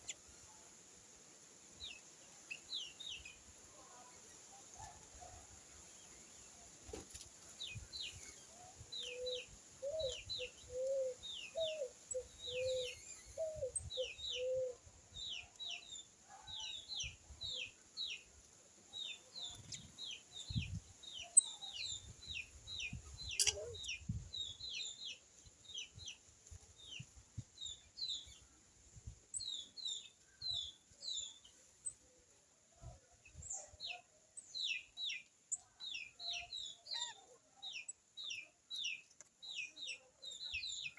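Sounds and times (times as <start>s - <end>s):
small birds chirping: 1.8s - 28.6s, 29.2s - 40.9s.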